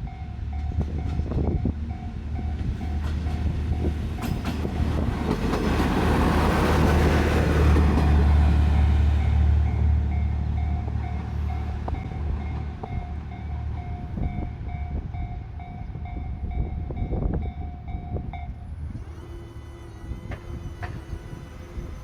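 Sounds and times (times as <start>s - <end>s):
diesel railcar rumbling: 0.0s - 22.0s.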